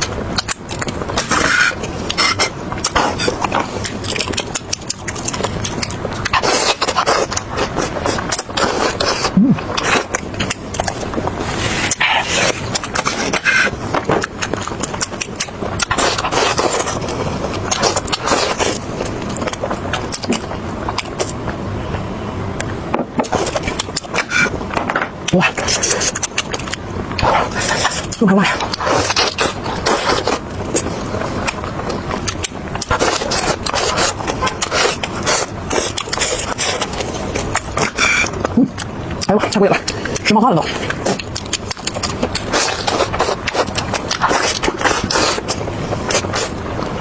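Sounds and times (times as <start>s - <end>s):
chewing crispy fried chicken: 0.0s - 22.0s, 22.6s - 47.0s
steady low rumble: 0.0s - 47.0s.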